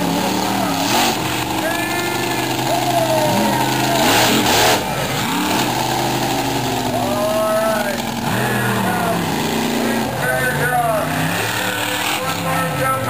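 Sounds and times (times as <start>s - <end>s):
loud noisy rush: 0.0s - 13.0s
monster truck engine revving: 0.0s - 13.0s.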